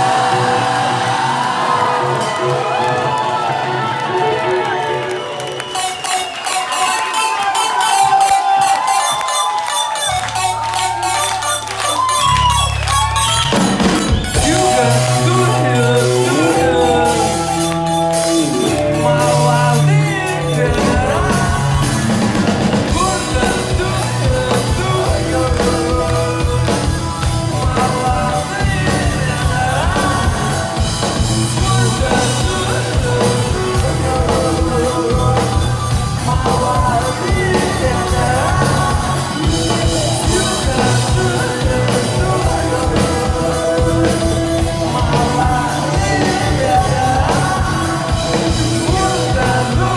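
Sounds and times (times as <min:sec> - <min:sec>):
drum kit fast beat: 0:00.0 - 0:04.0, 0:05.6 - 0:49.9
guitar chords: 0:00.0 - 0:49.9.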